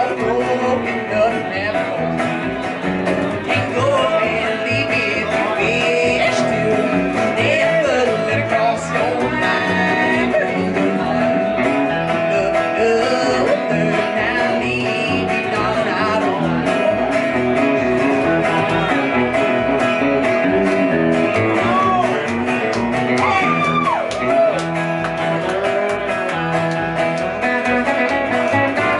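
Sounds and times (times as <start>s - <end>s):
acoustic guitar: 0.0s - 28.9s
electric guitar: 0.0s - 28.9s
plucked upright bass: 0.0s - 28.9s.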